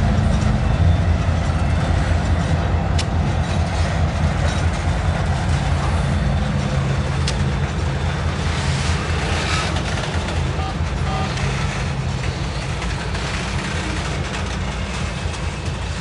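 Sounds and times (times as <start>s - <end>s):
diesel locomotive engine drone: 0.0s - 16.0s
train wheels rumbling on rails: 0.0s - 16.0s.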